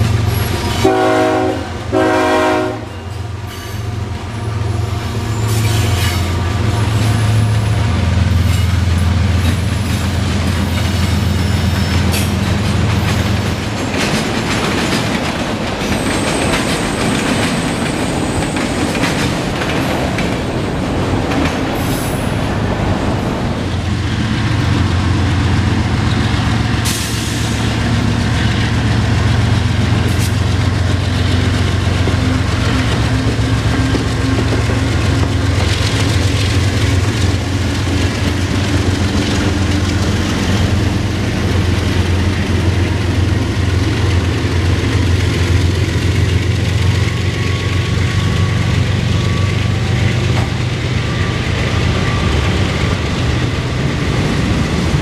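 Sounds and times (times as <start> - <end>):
diesel locomotive drone: 0.0 - 55.0
freight cars rolling on rails: 0.0 - 55.0.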